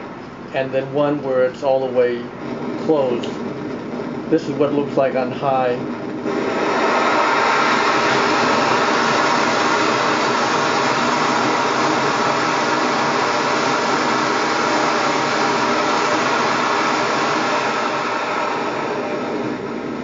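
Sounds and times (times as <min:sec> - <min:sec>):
stove burner hissing: 0:00.0 - 0:20.0.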